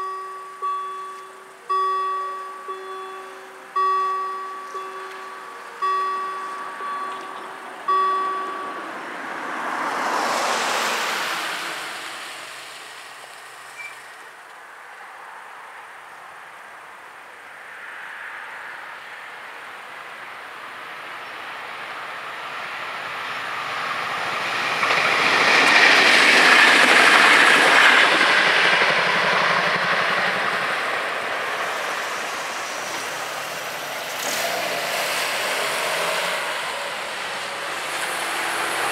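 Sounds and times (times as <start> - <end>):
train wheels on rails: 0.0 - 14.2, 20.9 - 38.9
train engine passing: 0.0 - 14.4, 19.7 - 38.9.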